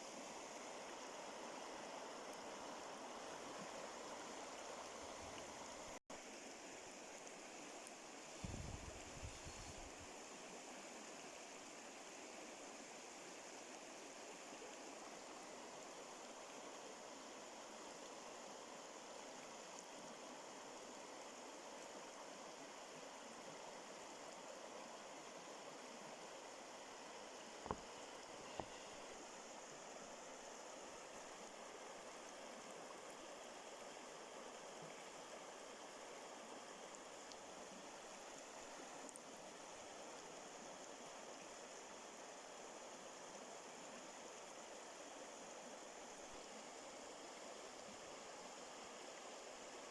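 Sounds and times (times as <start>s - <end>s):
flowing water: 0.0s - 49.9s.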